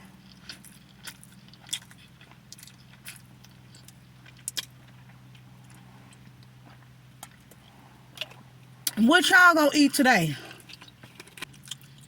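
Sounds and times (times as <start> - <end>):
person chewing with crunches: 0.0 - 9.0, 10.5 - 12.0
steady low hum: 0.0 - 12.0.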